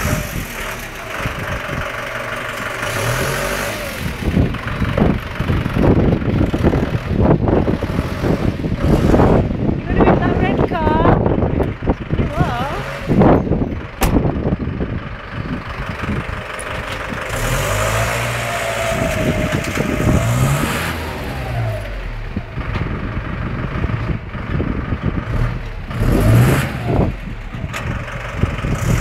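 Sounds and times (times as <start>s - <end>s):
van engine revving: 0.0s - 29.0s.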